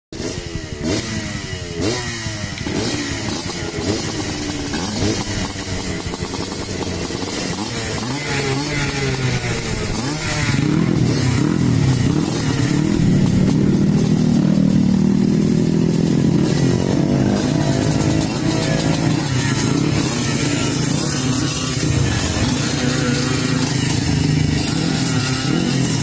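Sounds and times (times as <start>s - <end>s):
motorcycle engine revving: 0.2s - 26.0s.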